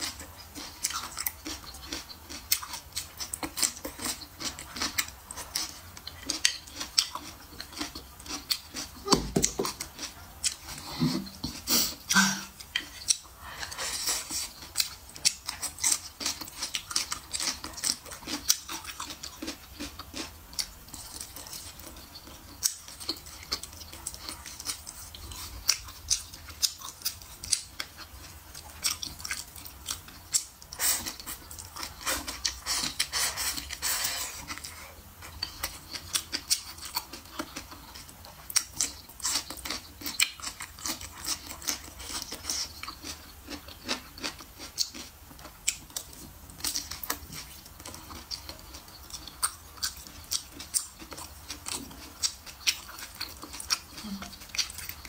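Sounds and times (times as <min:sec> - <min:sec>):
wet chewing mouth clicks: 0:00.0 - 0:55.0.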